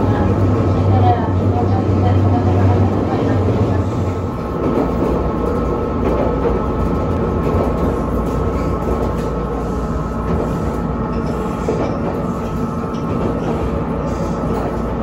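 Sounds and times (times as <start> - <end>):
train running on rails: 0.0 - 15.0.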